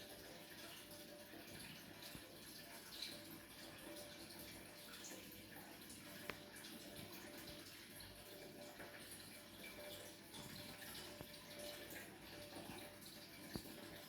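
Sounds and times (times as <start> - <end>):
aquarium water trickling: 0.0 - 14.0.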